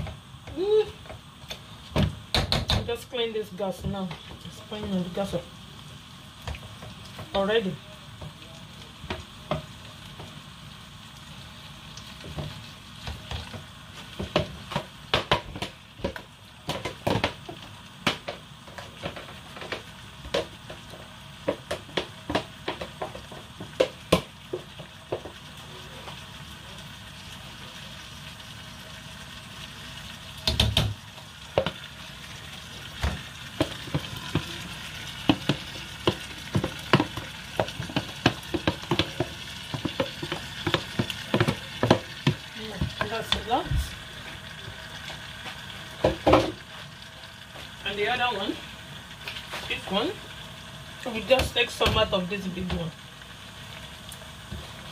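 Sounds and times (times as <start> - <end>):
stew sizzling in pot: 0.0 - 54.9.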